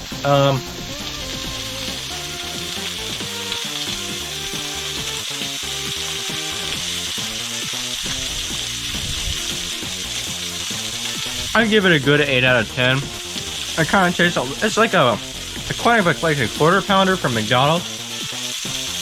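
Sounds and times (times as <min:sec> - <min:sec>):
background music: 0:00.0 - 0:19.0
burgers sizzling on a grill: 0:00.0 - 0:19.0.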